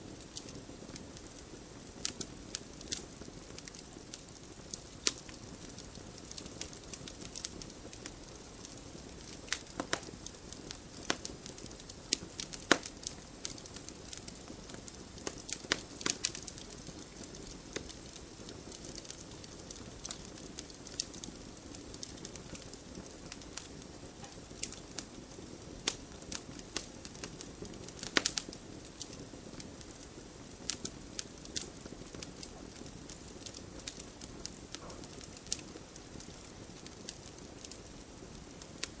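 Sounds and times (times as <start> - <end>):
soft steady hiss: 0.0 - 39.0
wood fire crackling and popping: 0.0 - 39.0.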